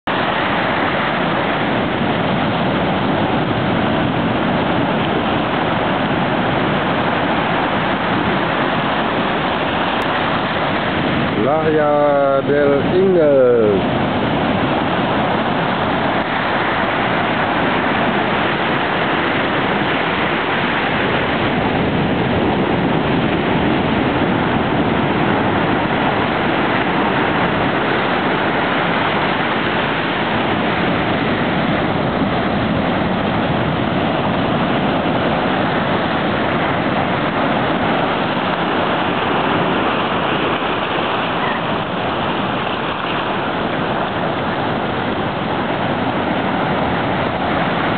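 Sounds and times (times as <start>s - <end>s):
surf washing over rocks: 0.0s - 47.9s.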